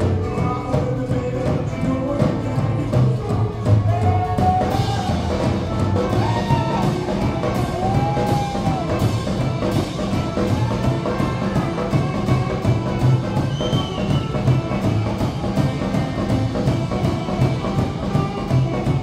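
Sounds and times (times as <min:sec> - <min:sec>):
guitar lead bending long notes: 0:00.0 - 0:19.0
rockabilly band playing: 0:00.0 - 0:19.0.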